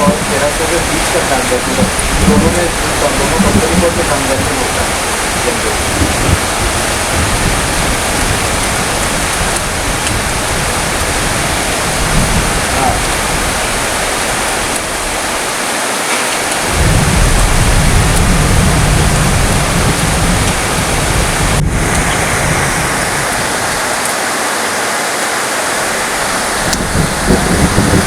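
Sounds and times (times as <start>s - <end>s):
distant thunder rumbling: 0.0s - 15.6s, 16.4s - 24.0s, 25.9s - 28.0s
heavy rain falling: 0.0s - 28.0s.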